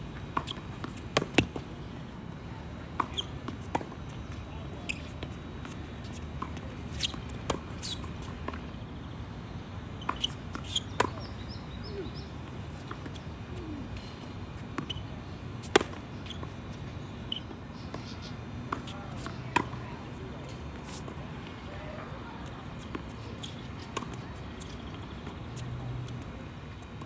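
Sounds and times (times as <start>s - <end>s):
tennis balls struck and bouncing: 0.2s - 1.7s, 2.9s - 9.0s, 10.0s - 16.8s, 18.7s - 26.3s.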